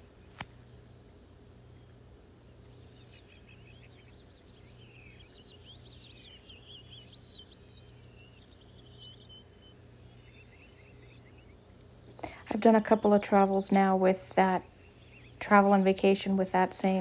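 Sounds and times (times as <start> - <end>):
low steady hum: 0.0 - 17.0
bird chirping and twittering: 1.6 - 17.0.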